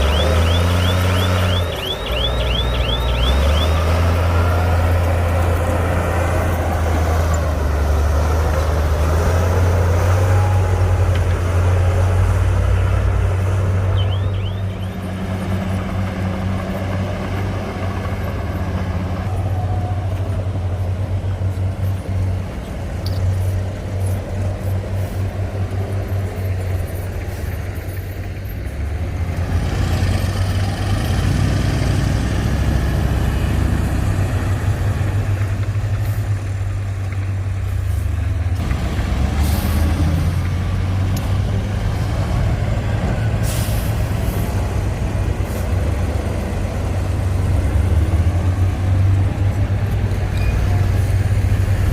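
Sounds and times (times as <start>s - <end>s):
heavy diesel engines throbbing: 0.0s - 51.9s.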